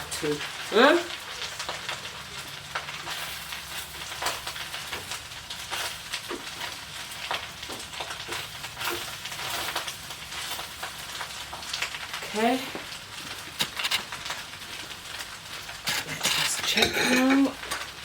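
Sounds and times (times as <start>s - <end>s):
fried rice sizzling in a pan: 0.0s - 18.0s.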